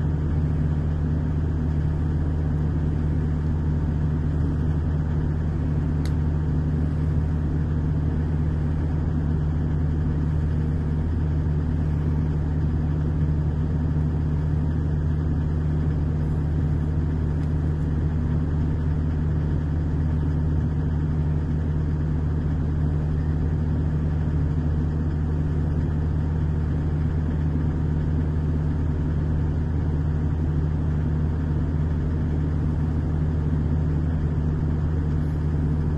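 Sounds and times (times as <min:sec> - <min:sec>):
digger engine idling: 0:00.0 - 0:35.9.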